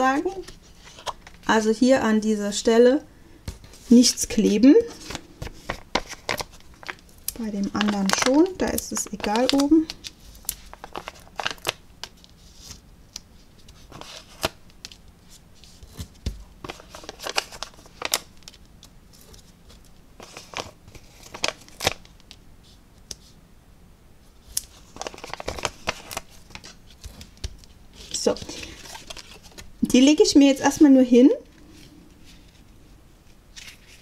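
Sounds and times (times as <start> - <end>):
paper and foam dots rustling: 3.5 - 23.4, 24.4 - 34.0.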